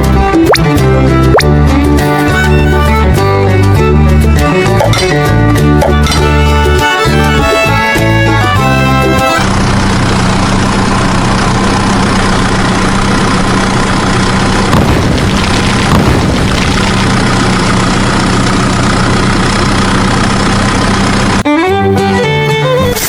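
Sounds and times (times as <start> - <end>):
tractor engine idling: 1.3 - 21.4.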